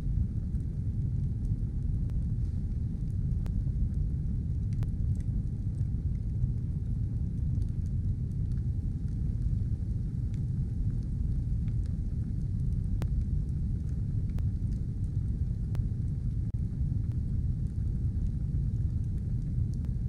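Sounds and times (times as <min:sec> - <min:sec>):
fire crackling and popping: 0:00.0 - 0:20.0
stove fire roaring: 0:00.0 - 0:20.0.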